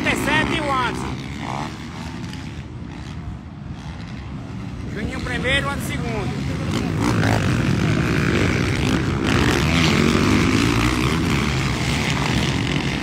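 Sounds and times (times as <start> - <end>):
motocross bike engines racing past: 0.0 - 13.0.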